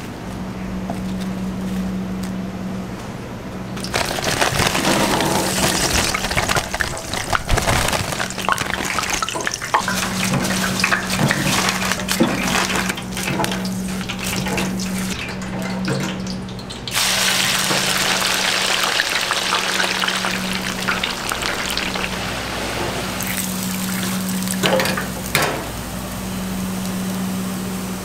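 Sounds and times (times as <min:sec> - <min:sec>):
hot oil sizzling in deep fryer: 0:03.8 - 0:28.0.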